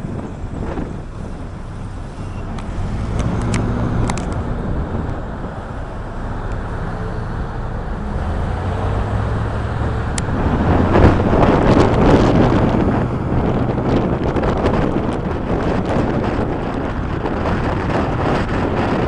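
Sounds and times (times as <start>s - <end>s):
car engine: 0.0s - 19.0s
road rumble: 0.0s - 19.0s.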